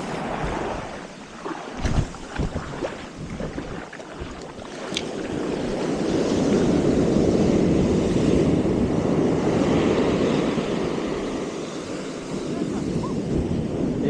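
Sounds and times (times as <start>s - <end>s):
ocean surf washing on beach: 0.0s - 14.0s.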